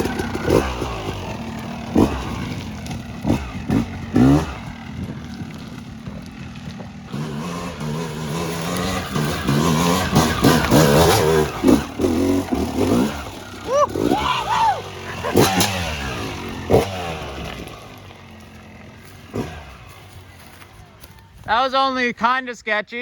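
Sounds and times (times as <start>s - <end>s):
dirt bike engine revving: 0.0s - 21.6s.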